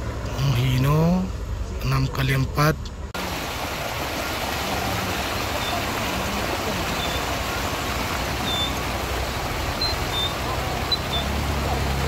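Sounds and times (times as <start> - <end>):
road and vehicle noise: 0.0 - 12.0.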